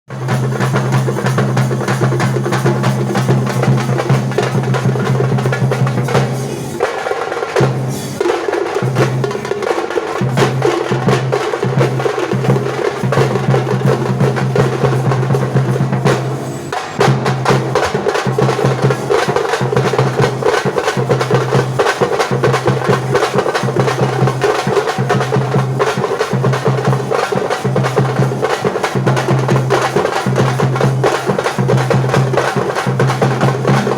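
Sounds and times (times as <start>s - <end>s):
fast dense drumming: 0.1s - 33.9s.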